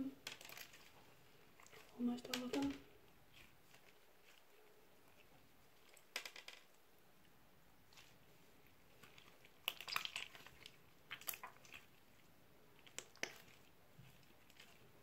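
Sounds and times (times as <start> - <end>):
slime squelching in hands: 0.1 - 6.2, 7.8 - 15.0.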